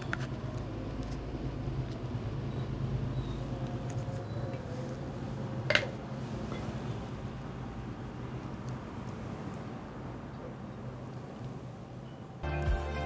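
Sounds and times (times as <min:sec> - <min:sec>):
steady low background hum: 0:00.0 - 0:12.4.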